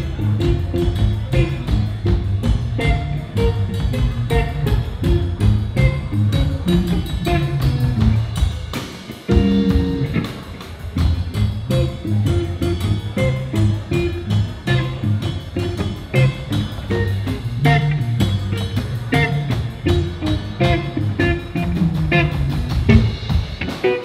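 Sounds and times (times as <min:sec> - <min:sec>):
drum kit: 0:00.0 - 0:24.0
electric guitars: 0:00.0 - 0:24.0.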